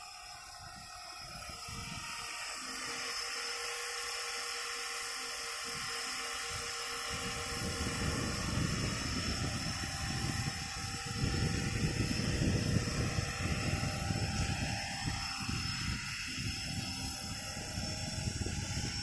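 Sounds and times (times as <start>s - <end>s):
rc helicopter high whine: 0.0s - 19.0s.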